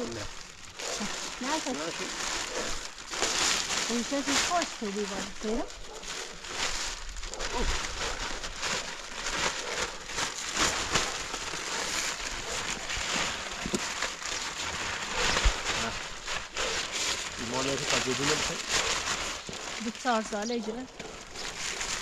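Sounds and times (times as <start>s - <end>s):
plastic sheeting crinkling: 0.0s - 22.0s.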